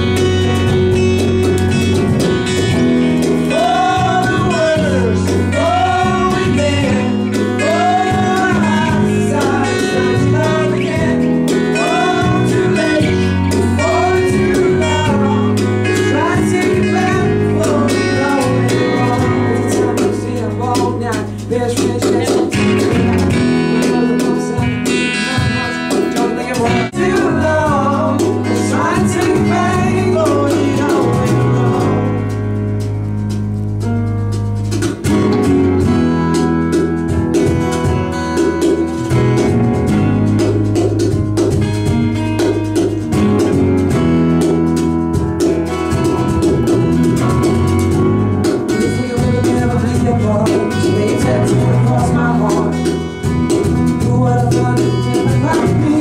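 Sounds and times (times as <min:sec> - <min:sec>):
melodic vocal line: 0:00.0 - 0:33.0, 0:41.6 - 0:56.0
pop-rock band playing: 0:00.0 - 0:56.0.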